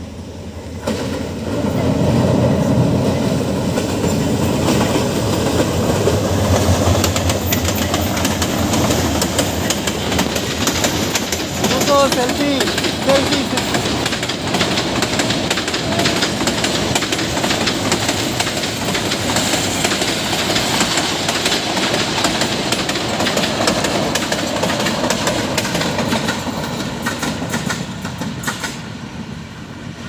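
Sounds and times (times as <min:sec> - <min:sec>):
train wheels clattering: 0:03.0 - 0:28.9.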